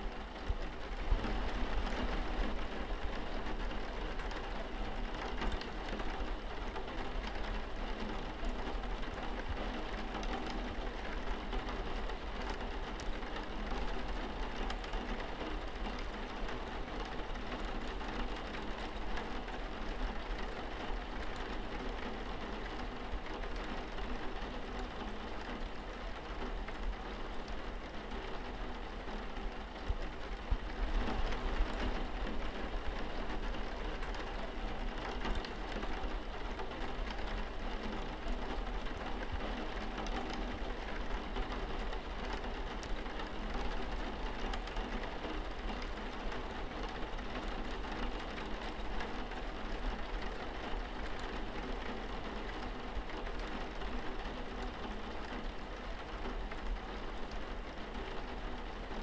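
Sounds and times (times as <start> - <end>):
rain on a window: 0.0 - 59.0.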